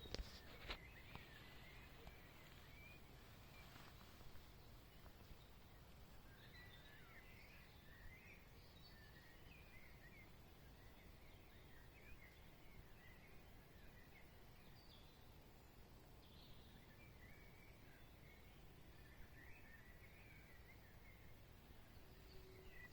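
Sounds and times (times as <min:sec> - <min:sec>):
low outdoor air hum: 0:00.0 - 0:22.9.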